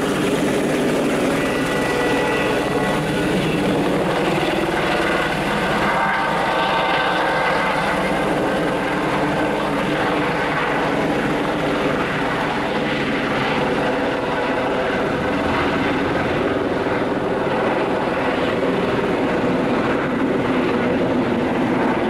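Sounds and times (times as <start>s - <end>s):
helicopter engine and rotors: 0.0s - 22.0s
helicopter whine: 0.0s - 22.0s.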